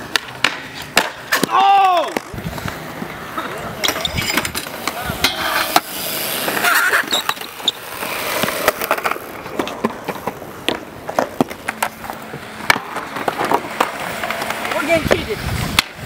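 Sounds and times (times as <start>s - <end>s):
skateboard clacking on ground: 0.0s - 16.0s
skateboard wheels rolling on concrete: 0.0s - 16.0s.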